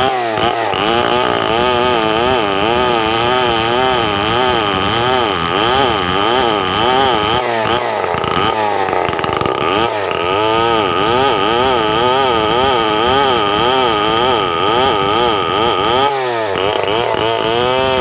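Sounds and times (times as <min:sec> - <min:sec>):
chainsaw cutting a log: 0:00.0 - 0:18.0.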